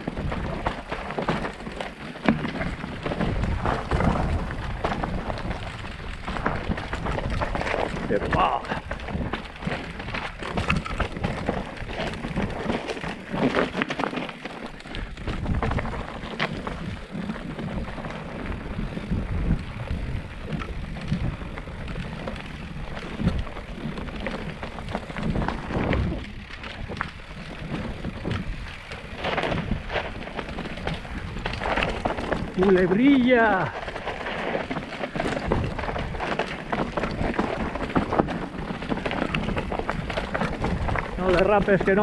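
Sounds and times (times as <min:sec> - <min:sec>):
bike knocking and rattling: 0:00.0 - 0:42.0
bike tyres crunching over gravel: 0:00.0 - 0:42.0.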